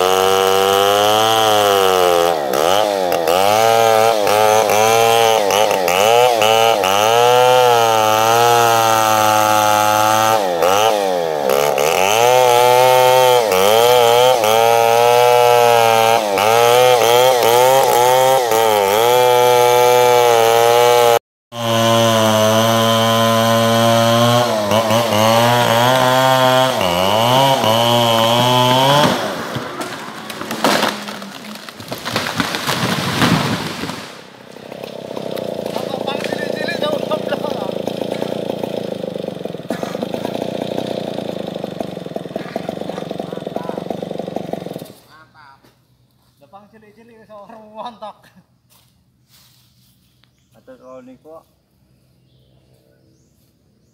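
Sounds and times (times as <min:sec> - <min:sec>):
chainsaw cutting tree trunk: 0:00.0 - 0:45.1.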